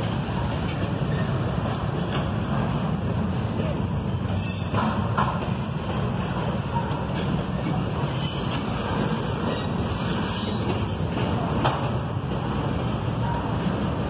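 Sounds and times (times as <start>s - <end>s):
rumble of steel wheels on rail: 0.0s - 14.0s.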